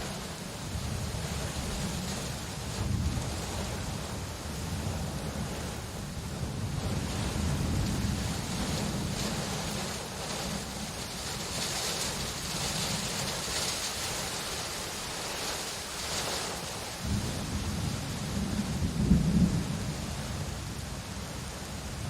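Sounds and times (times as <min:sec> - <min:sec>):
rumble of thunder: 0:00.0 - 0:13.7, 0:17.0 - 0:22.0
steady rain falling: 0:00.0 - 0:22.0.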